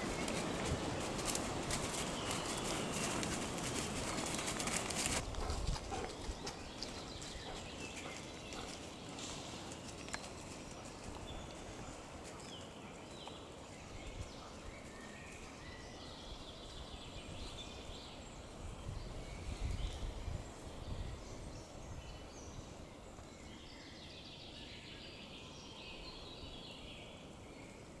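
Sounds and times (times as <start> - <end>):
outdoor background noise: 0.0 - 28.0
wild birds singing: 0.0 - 28.0.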